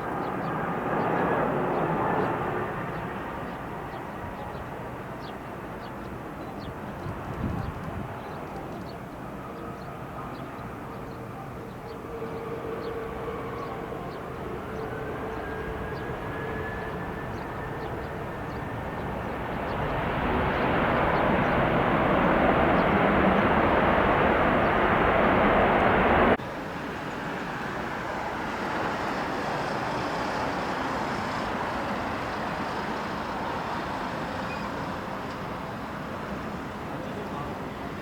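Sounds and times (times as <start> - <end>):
jet engines whining and rushing: 0.0 - 38.0.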